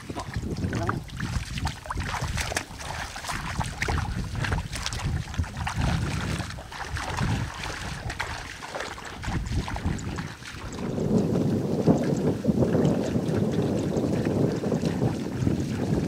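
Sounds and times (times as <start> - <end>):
feet splashing through water: 0.0 - 16.0
wind buffeting microphone: 0.0 - 16.0.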